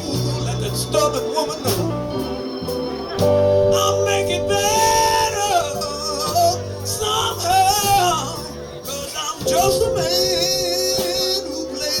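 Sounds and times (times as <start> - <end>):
person singing: 0.0 - 2.5, 3.6 - 12.0
bass: 0.0 - 12.0
guitar: 0.0 - 12.0
wavering lead line: 0.0 - 12.0.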